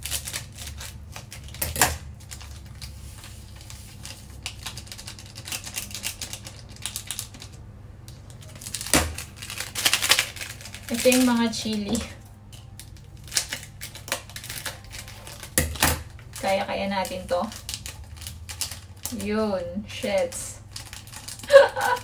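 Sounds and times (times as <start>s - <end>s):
scissors snipping sachets: 0.0s - 7.6s, 8.3s - 22.0s
low steady hum: 0.0s - 22.0s
sachet clicks and crinkles: 0.0s - 22.0s.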